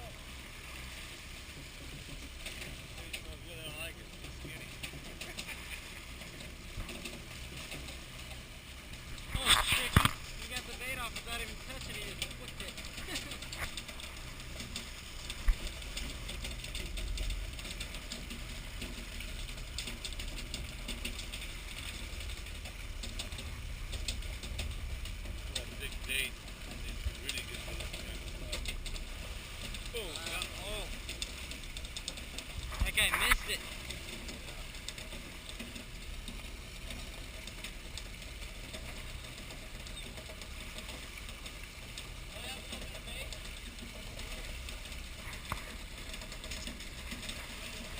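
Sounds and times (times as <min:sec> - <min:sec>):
boat engine droning: 0:00.0 - 0:47.9
rapid clicking and rattling: 0:00.8 - 0:47.9
faint ticks: 0:04.1 - 0:47.9.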